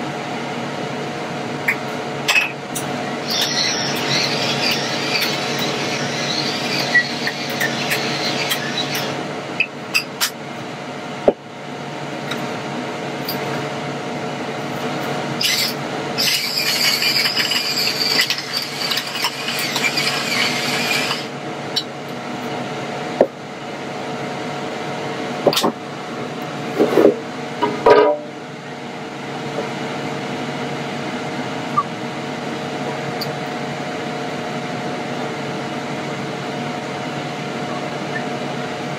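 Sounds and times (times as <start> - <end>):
air fryer fan hum: 0.0 - 38.9.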